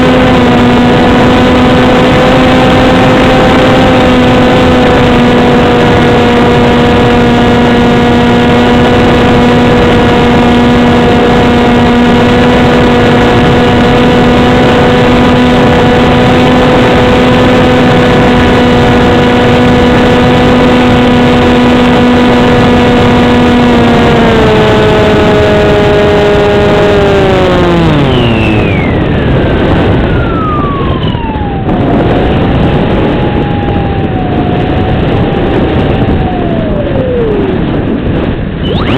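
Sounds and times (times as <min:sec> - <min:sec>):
electric motor propeller whining: 0:00.0 - 0:38.0, 0:38.6 - 0:38.9
wind rush on microphone: 0:00.0 - 0:38.9.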